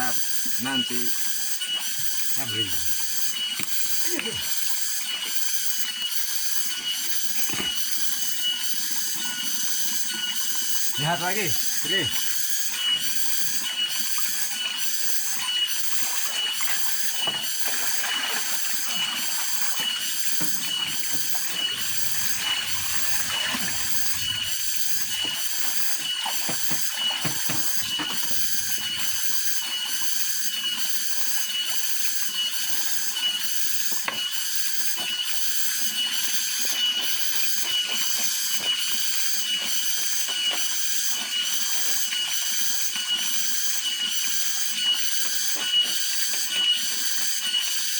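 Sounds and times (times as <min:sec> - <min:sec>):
cicadas buzzing in chorus: 0:00.0 - 0:46.0.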